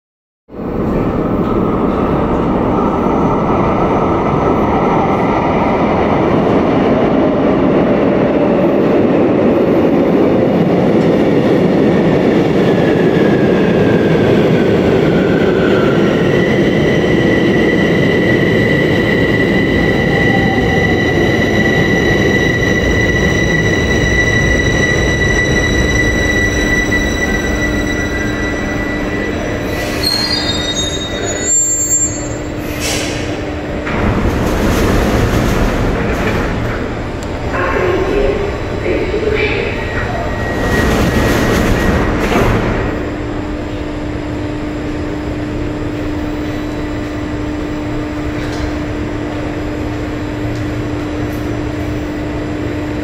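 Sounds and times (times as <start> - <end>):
train rail and machinery noise: 0.5 - 53.0.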